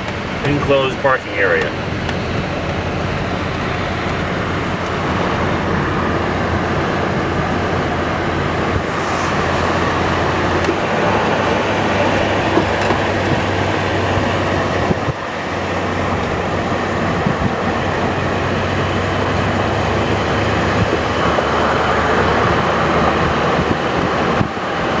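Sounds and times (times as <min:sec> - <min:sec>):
low train hum: 0:00.0 - 0:25.0
train wheels rumbling on rails: 0:01.5 - 0:25.0.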